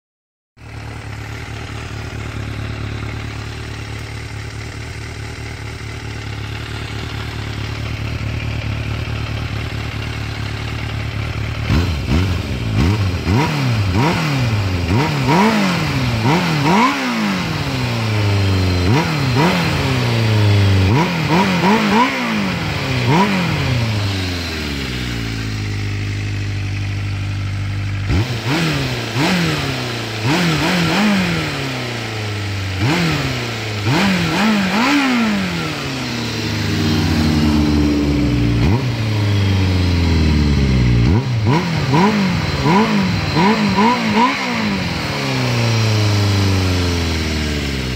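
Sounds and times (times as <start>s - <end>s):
motorcycle engine idling: 0.6s - 47.9s
motorcycle throttle blips: 0.7s - 47.9s.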